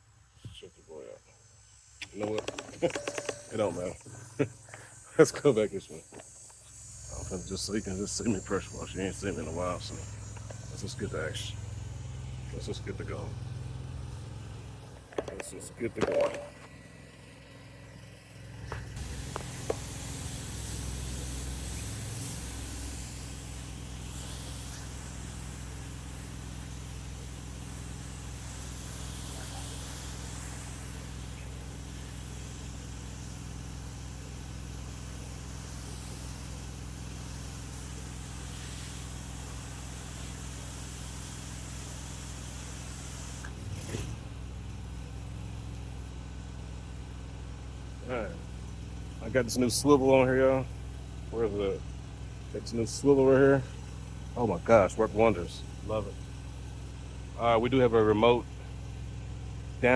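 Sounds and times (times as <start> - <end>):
water spray hissing on siding: 0.0 - 15.9, 18.4 - 44.3, 44.9 - 57.5
pressure washer engine humming: 0.4 - 59.9.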